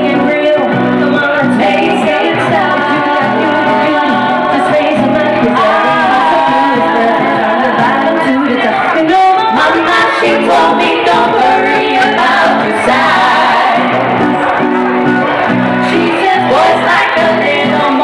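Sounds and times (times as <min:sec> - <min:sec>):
women singing in harmony: 0:00.0 - 0:14.7, 0:15.6 - 0:18.0
acoustic guitar: 0:00.0 - 0:18.0.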